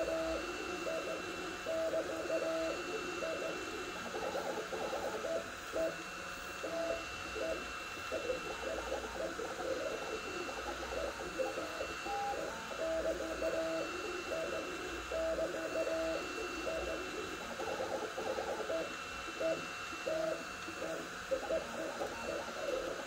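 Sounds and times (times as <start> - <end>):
fan hiss: 0.0 - 23.0
stepper motor tones: 0.0 - 23.0
thin high whine: 0.0 - 23.0.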